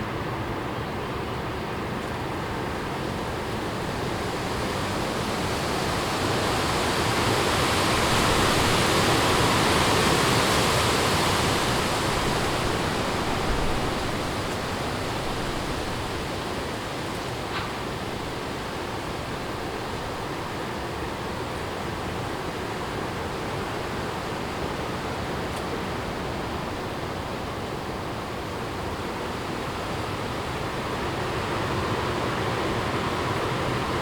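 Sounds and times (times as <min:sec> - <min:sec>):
wind rushing through trees: 0:00.0 - 0:34.0.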